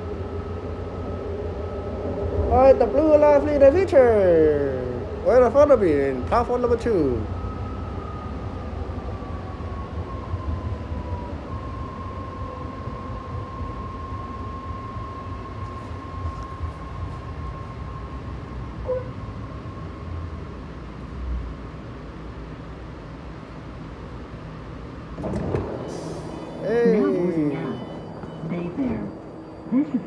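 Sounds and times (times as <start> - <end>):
train electric whine: 0.0 - 30.0
train low rumble: 0.0 - 30.0.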